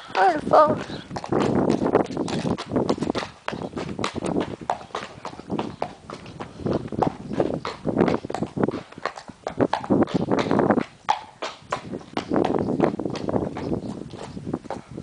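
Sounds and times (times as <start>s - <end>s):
hooves clip-clopping on concrete: 0.0s - 15.0s.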